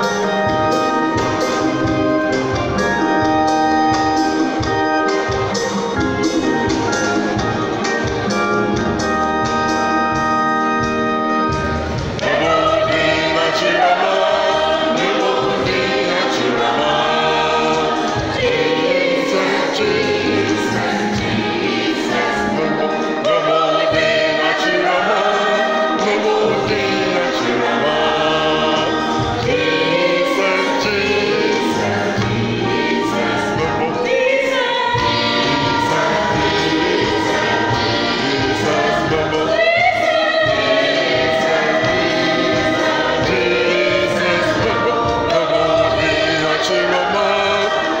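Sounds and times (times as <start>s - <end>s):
choir singing gospel: 0.0s - 48.0s.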